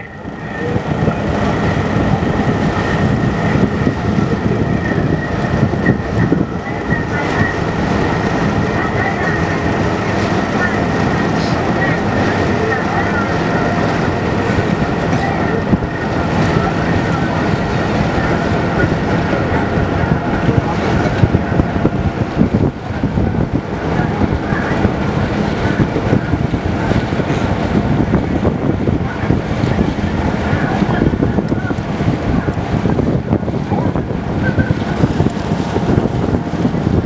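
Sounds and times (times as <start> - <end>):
motorboat engine running: 0.0 - 37.0
water rushing along hull: 0.0 - 37.0
wind buffeting microphone: 0.0 - 37.0.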